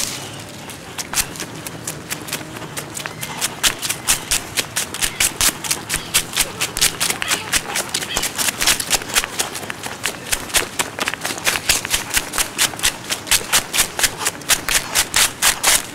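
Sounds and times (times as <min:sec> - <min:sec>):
running footsteps in dry leaves: 0:00.0 - 0:15.9.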